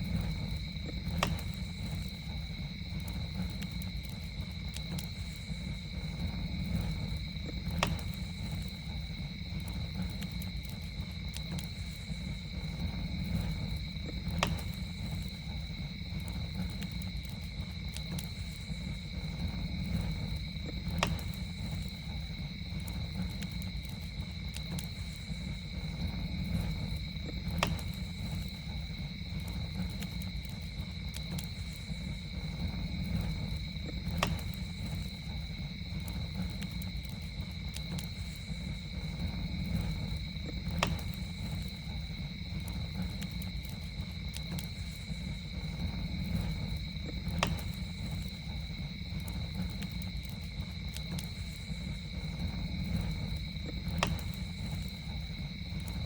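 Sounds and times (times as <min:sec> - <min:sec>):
campfire burning: 0:00.0 - 0:56.0
campfire pop: 0:00.0 - 0:56.0
night insects trilling: 0:00.0 - 0:56.0.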